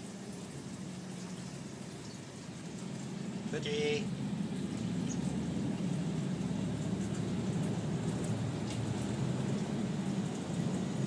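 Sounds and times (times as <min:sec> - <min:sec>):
aquarium filter bubbling water: 0:00.0 - 0:11.0.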